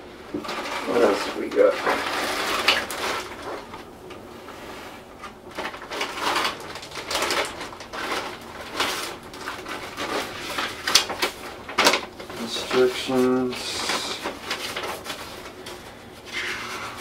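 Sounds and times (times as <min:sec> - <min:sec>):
plastic bag crinkling: 0:00.1 - 0:17.0
paper sheets rustling: 0:00.3 - 0:17.0.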